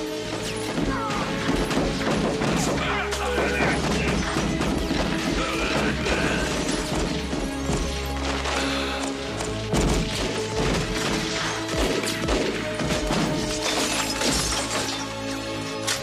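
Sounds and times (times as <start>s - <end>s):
film score with held notes: 0.0s - 16.0s.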